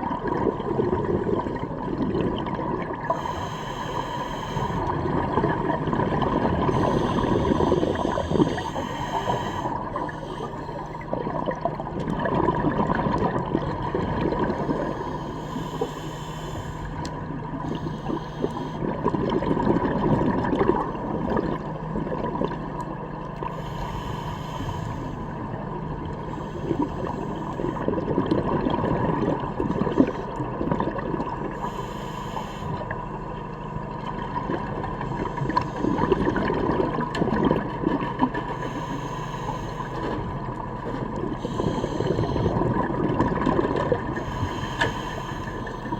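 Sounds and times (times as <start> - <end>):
underwater rushing bubbling water: 0.0 - 15.9, 16.8 - 31.7, 32.8 - 45.9
steady hum: 0.0 - 45.9.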